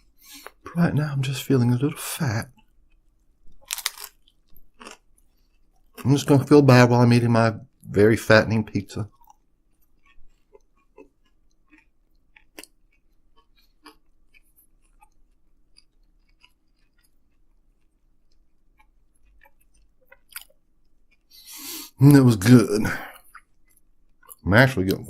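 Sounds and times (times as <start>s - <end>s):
person chewing food: 0.0s - 0.8s, 1.8s - 6.3s, 9.1s - 22.0s, 22.8s - 25.0s.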